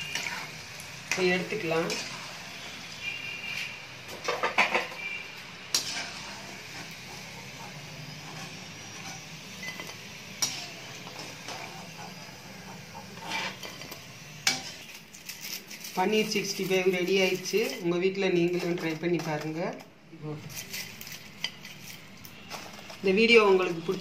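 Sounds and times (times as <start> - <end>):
food deep-frying in oil: 0.0 - 19.6, 20.3 - 24.0.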